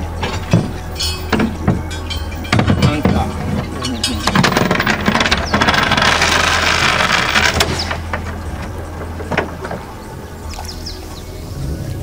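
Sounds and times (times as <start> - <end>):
speedboat motor humming: 0.0 - 12.0
water rushing: 0.0 - 12.0.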